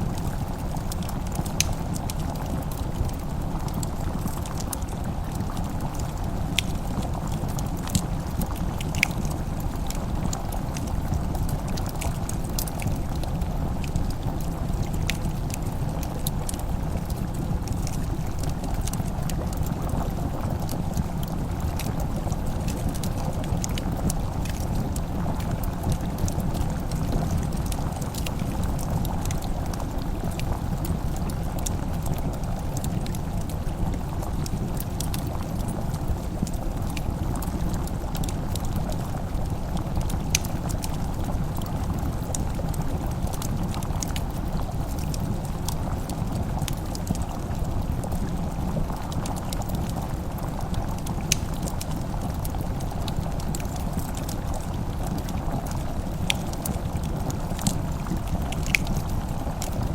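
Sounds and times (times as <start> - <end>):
fire crackles and pops: 0.0 - 59.9
wood fire low rumble: 0.0 - 59.9.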